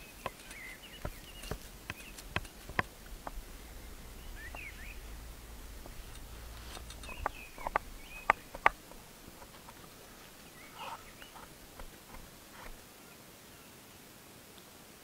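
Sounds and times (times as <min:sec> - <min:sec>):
birds calling: 0:00.0 - 0:12.8
knife cutting crusty bread: 0:00.0 - 0:12.8.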